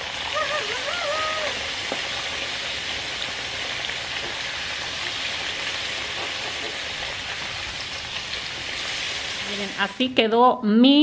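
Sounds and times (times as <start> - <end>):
fish sizzling in hot oil: 0.0 - 10.2.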